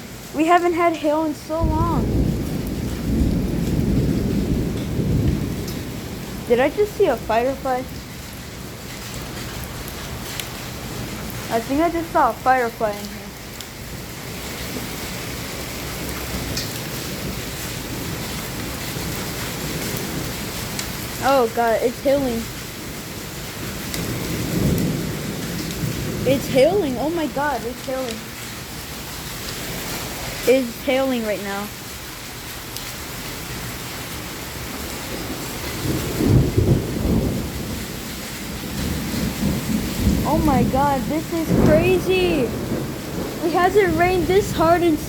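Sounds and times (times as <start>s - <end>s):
heavy rain and hail: 0.0s - 45.0s
low thunder roll: 1.3s - 31.2s, 34.8s - 45.0s.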